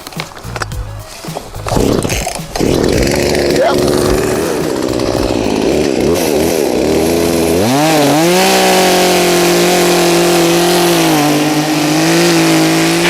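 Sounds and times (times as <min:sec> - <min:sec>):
chainsaw engine revving: 0:01.6 - 0:13.0.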